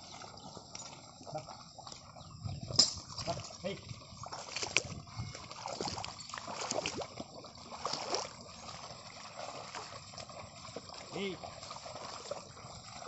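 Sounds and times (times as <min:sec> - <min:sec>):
water and mud sloshing: 0:00.0 - 0:13.0.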